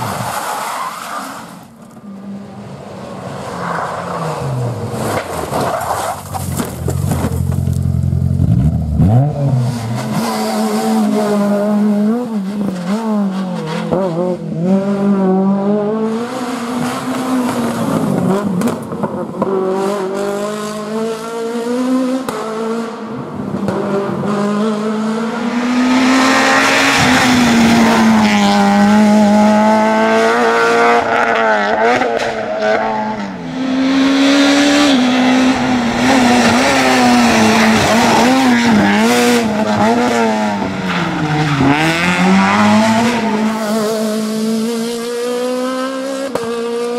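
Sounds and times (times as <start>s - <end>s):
rally car engines at full throttle: 0.0s - 46.9s.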